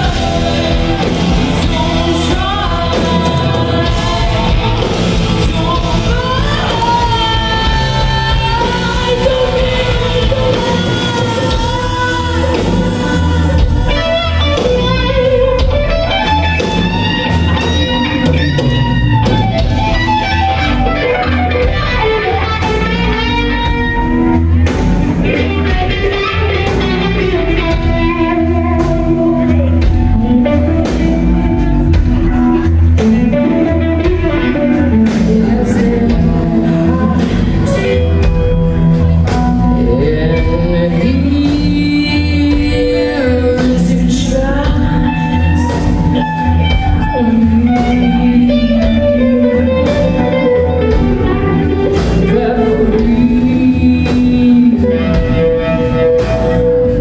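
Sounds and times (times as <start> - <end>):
live rock band: 0.0 - 57.0
woman singing lead: 0.0 - 57.0.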